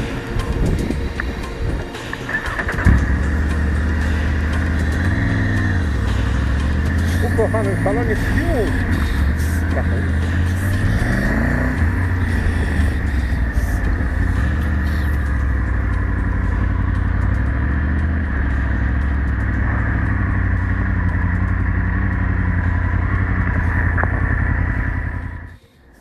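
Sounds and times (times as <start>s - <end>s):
motorcycle engine running: 0.0s - 25.6s.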